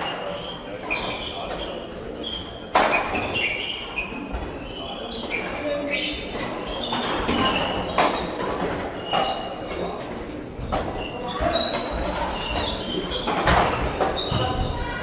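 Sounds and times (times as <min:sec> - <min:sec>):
shoes squeaking on hall floor: 0:00.0 - 0:15.0.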